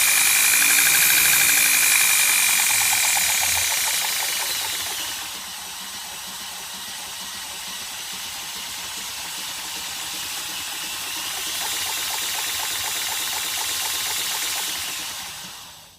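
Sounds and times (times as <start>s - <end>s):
belt grinder hissing: 0.0s - 15.9s.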